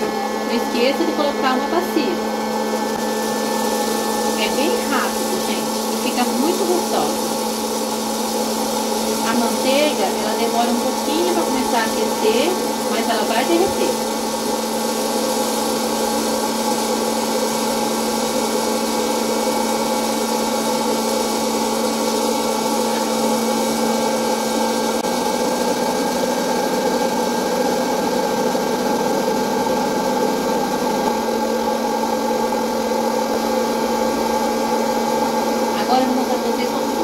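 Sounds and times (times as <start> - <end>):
popcorn popper fan whirring: 0.0 - 37.0.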